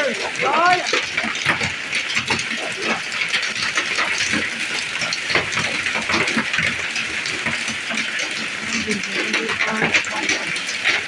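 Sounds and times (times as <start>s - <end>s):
hailstones clattering: 0.0s - 11.0s
rain hiss: 0.0s - 11.0s.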